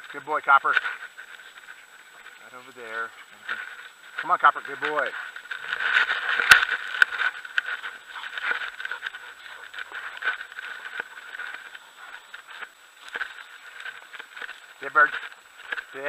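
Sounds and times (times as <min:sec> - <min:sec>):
camera scraping and rustling: 0:00.0 - 0:16.0
footsteps crunching on gravel: 0:00.0 - 0:16.0.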